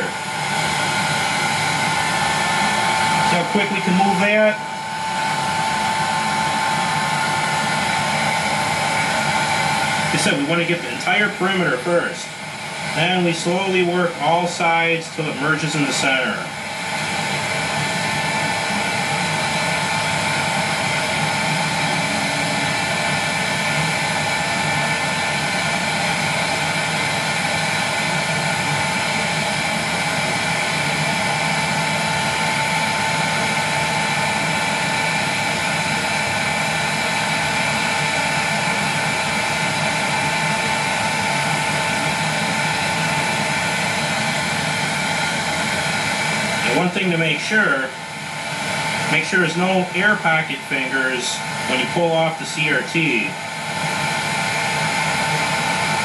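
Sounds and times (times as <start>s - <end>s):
heat gun blowing air: 0.0s - 56.0s.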